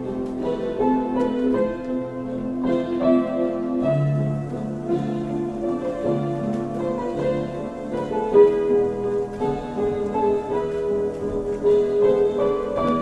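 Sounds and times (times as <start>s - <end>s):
instrumental waltz music: 0.0s - 13.0s.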